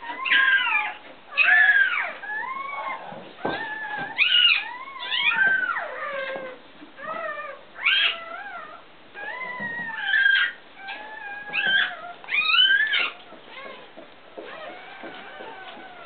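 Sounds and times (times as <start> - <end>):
puppies squealing: 0.0 - 16.0.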